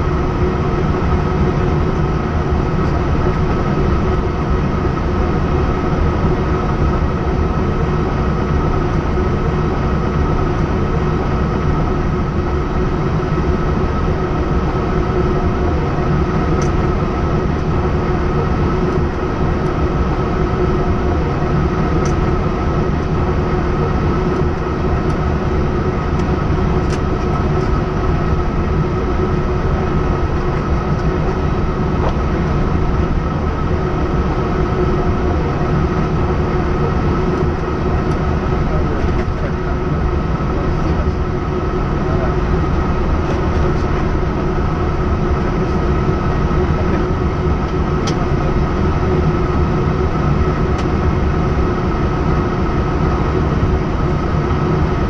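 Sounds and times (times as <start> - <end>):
aircraft engine rumble with whine: 0.0 - 55.0.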